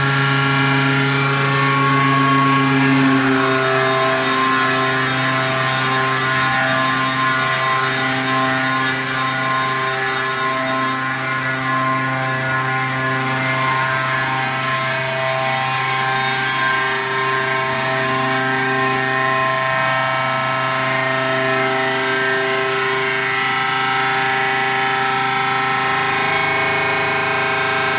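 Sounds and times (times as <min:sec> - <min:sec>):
machine whining tones: 0:00.0 - 0:27.9.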